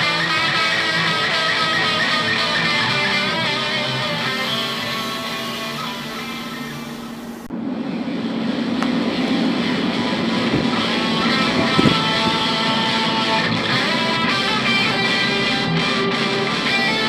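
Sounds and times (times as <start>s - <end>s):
guitar background music: 0.0s - 6.8s, 9.7s - 17.0s.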